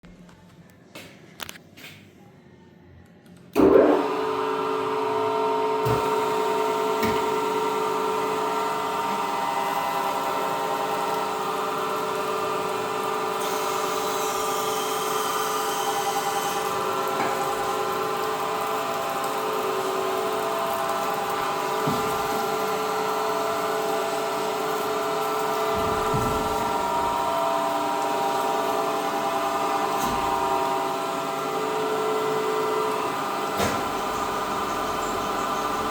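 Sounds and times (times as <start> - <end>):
surface grinder whining: 3.8 - 35.9.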